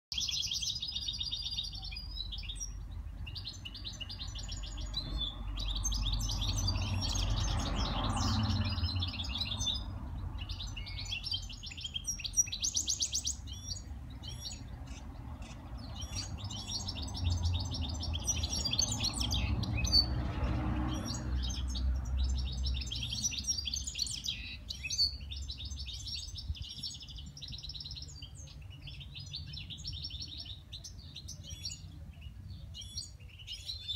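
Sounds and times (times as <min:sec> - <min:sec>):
songbird twittering: 0:00.1 - 0:33.9.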